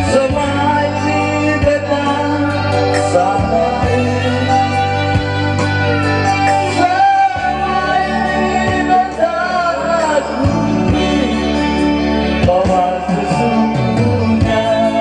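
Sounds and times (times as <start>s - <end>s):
band playing: 0.0s - 15.0s
man singing into a microphone: 0.0s - 15.0s
sustained bass notes: 0.0s - 15.0s.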